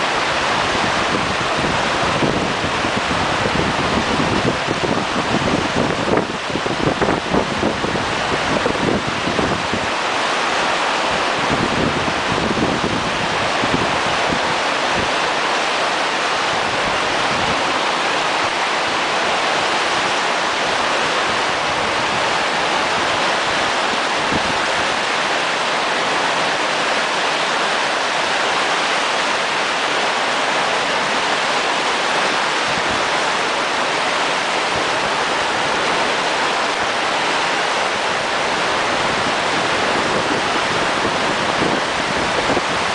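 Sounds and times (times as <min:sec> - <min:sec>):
running water rushing: 0:00.0 - 0:42.9
wind buffeting microphone: 0:00.0 - 0:42.9.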